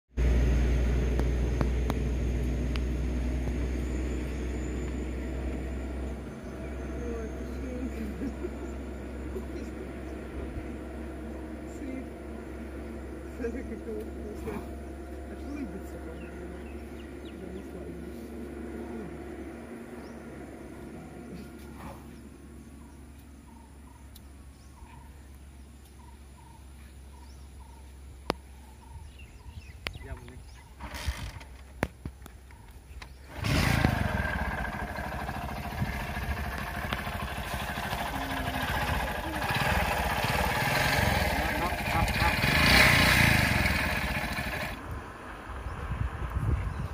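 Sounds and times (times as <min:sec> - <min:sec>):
engine idling: 0:00.2 - 0:26.6, 0:32.4 - 0:45.5.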